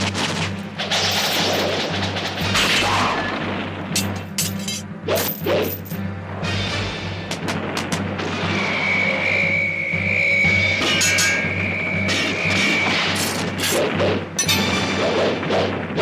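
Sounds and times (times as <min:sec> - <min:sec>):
dramatic music with low drone: 0:00.0 - 0:16.0.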